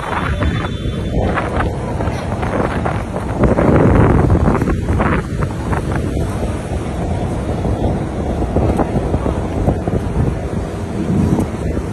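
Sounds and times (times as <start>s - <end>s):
city street traffic: 0.0s - 11.9s
wind on microphone: 0.0s - 11.9s.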